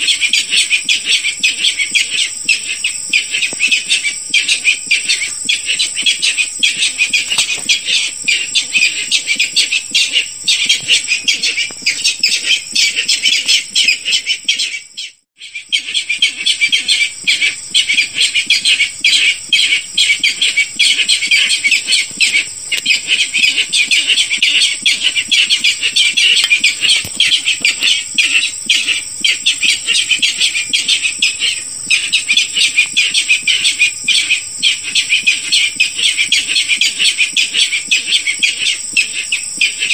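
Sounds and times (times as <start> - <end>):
rail bird calls: 0.0 - 39.9.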